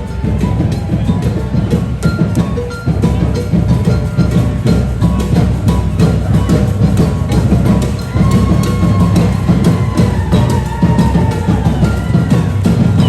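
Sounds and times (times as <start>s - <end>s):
parade drumming with bass drums: 0.0s - 13.0s.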